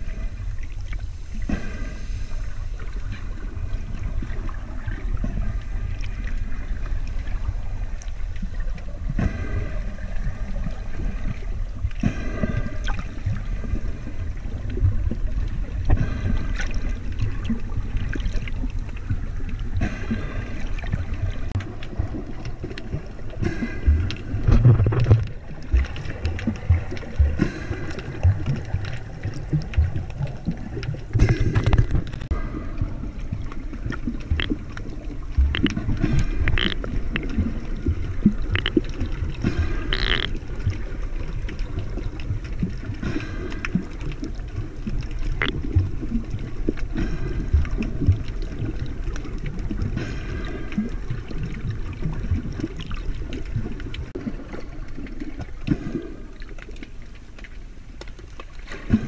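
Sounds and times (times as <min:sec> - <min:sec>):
muffled underwater sloshing: 0:00.0 - 0:59.0.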